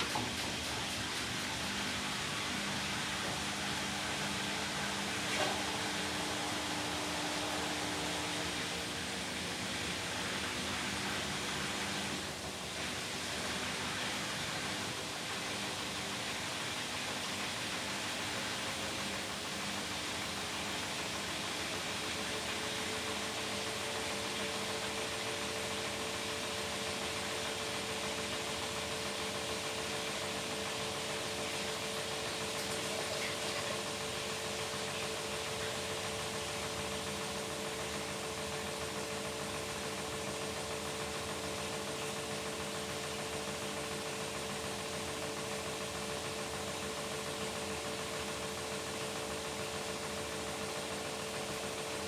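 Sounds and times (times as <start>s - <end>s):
washing machine motor hum: 0.0s - 52.0s.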